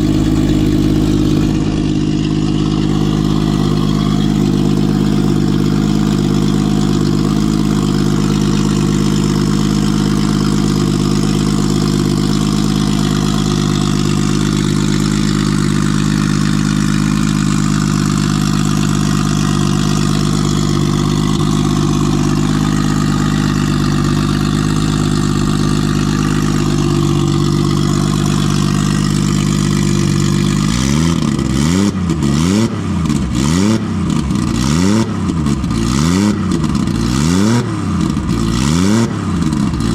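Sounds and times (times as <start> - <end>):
car engine idling: 0.0 - 39.9
engine revving: 0.0 - 39.9.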